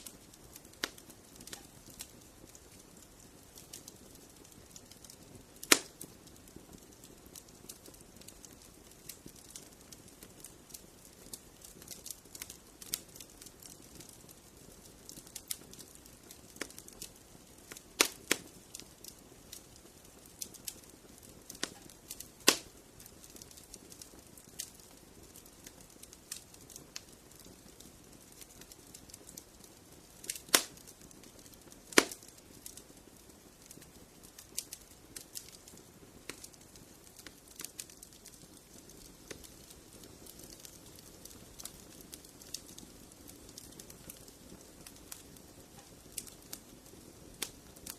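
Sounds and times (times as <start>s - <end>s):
fire crackling in a fireplace: 0.0s - 47.9s
loud fire pops: 0.0s - 47.9s
low fire hiss: 0.0s - 47.9s.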